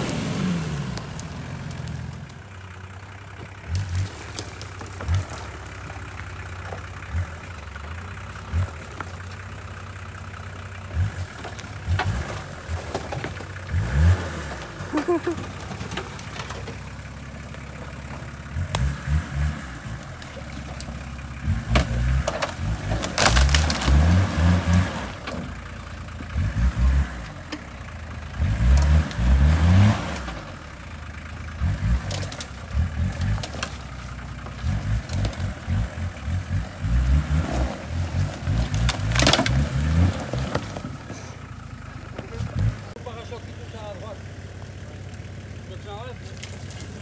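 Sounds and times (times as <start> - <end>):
branches cracking under tyres: 0.0 - 47.0
off-road vehicle engine revving: 0.0 - 47.0.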